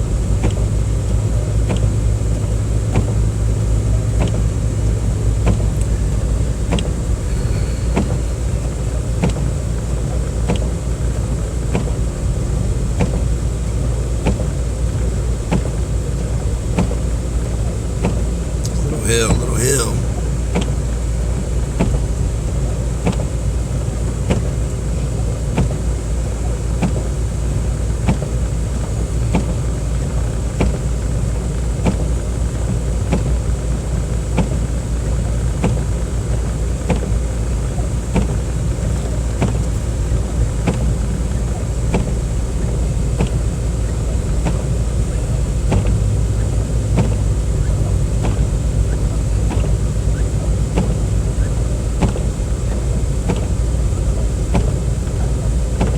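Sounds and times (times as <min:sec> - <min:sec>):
engine and road rumble: 0:00.0 - 0:19.0, 0:20.0 - 0:55.9.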